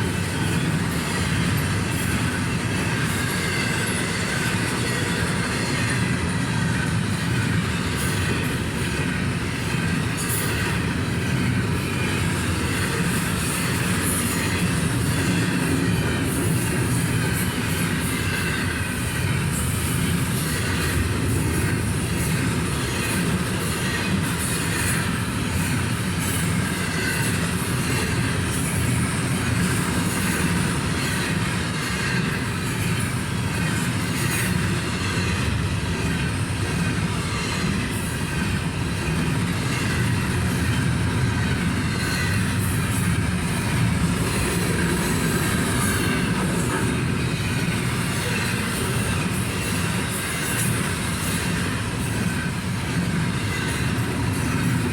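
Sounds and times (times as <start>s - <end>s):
train wheel squeal: 0.0s - 54.9s
train wheels rumbling on rail: 0.0s - 54.9s.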